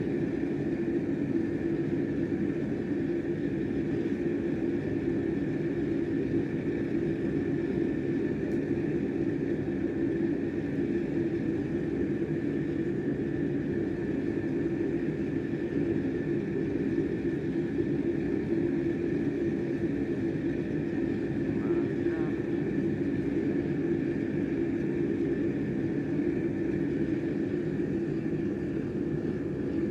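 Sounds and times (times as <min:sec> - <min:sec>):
faint high whine: 0:00.0 - 0:29.9
oil burner roaring: 0:00.0 - 0:29.9.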